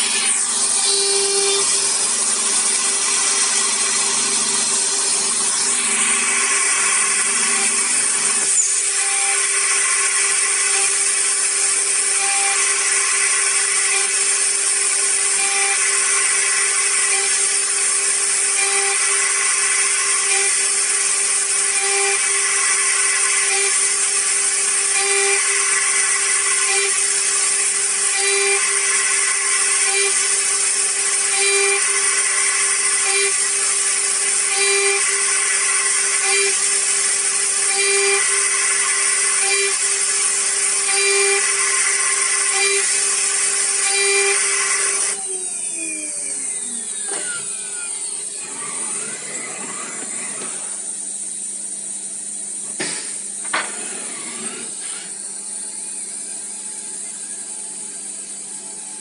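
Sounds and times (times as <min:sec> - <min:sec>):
engraving spindle hissing and humming: 0:00.0 - 0:59.0
whining tones sliding up and down: 0:00.0 - 0:59.0.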